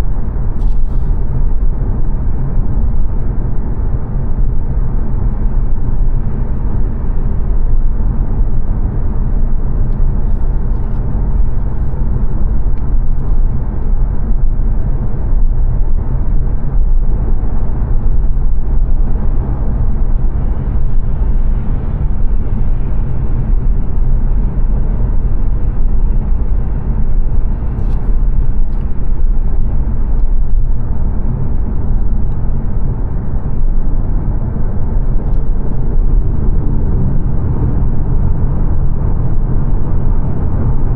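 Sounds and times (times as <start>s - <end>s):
tyre and road rumble: 0.0s - 40.9s.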